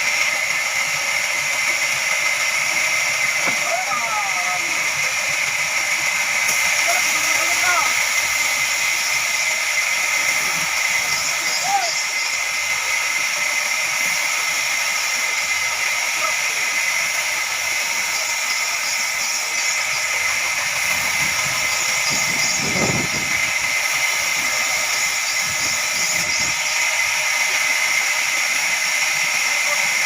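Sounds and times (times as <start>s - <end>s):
band saw cutting log: 0.0s - 30.0s.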